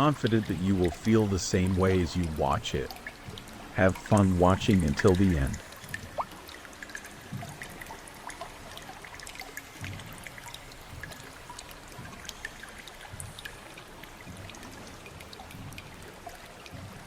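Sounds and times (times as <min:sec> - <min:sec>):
water dripping in a cave: 0:00.0 - 0:17.0
water trickling: 0:00.0 - 0:17.0.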